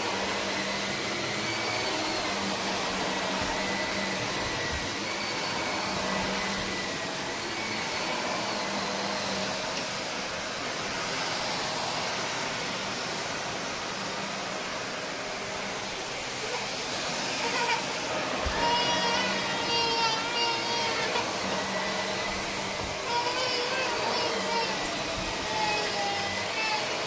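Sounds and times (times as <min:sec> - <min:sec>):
vacuum cleaner running on carpet: 0:00.0 - 0:27.0.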